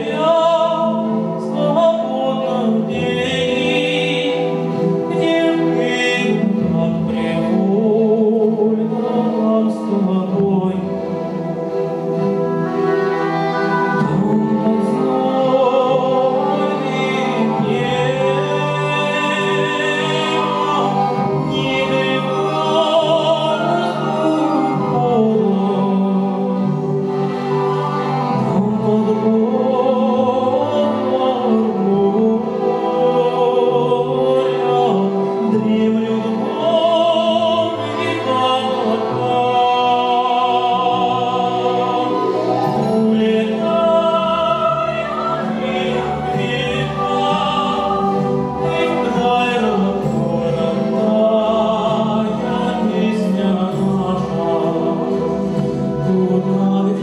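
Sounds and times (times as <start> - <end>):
male solo singer: 0.0 - 11.7, 13.7 - 27.0, 28.1 - 57.0
chamber choir singing: 0.0 - 57.0
grand piano: 0.0 - 57.0.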